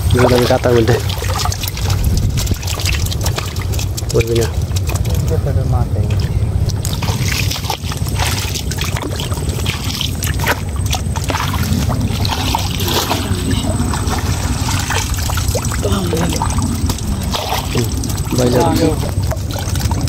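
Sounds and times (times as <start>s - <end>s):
low rumble: 0.0s - 20.0s
water trickling and sloshing: 0.0s - 20.0s.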